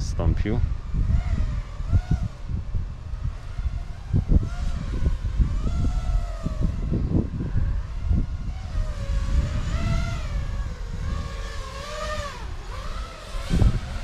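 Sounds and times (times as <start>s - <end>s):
quadcopter motors whining: 0.0s - 14.0s
wind rumble on microphone: 0.0s - 14.0s.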